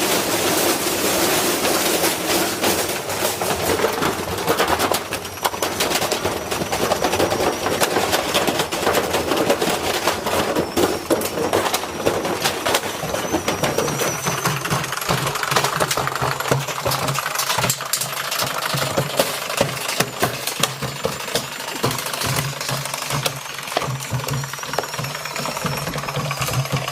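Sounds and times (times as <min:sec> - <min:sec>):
metal tools clattering in drum: 0:00.0 - 0:26.9
washing machine motor hum: 0:00.0 - 0:26.9.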